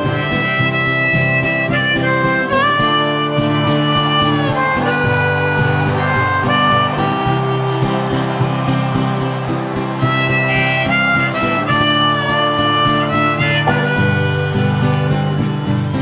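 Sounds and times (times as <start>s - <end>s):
harmonica melody: 0.0s - 16.0s
strummed acoustic guitar: 0.0s - 16.0s.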